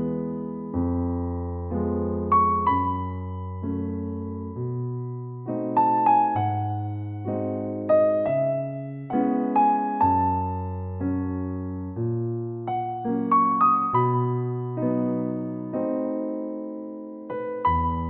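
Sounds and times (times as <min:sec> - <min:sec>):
gentle electric piano piece: 0:00.0 - 0:18.0.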